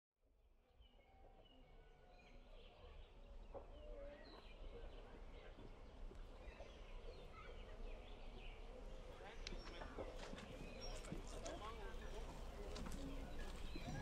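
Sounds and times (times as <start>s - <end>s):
birds chirping: 2.2s - 14.0s.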